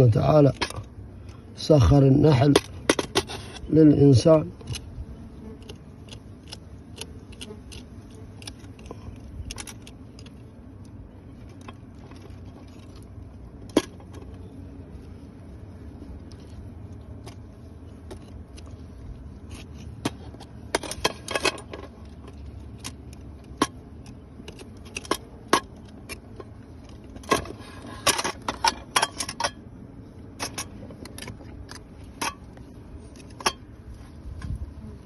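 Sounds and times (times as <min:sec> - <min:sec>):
low background noise: 0:00.0 - 0:35.0
knife scraping honeycomb: 0:00.1 - 0:35.0.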